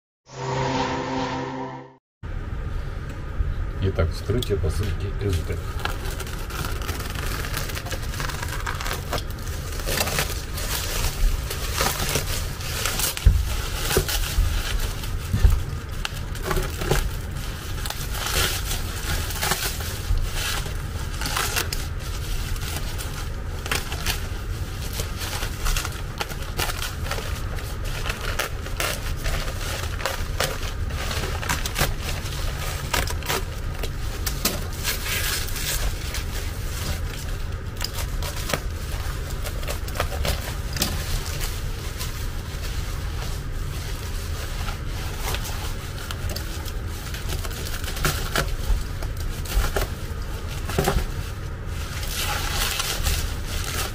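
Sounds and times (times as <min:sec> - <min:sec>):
plastic wrapping crinkling: 0:05.6 - 0:53.9.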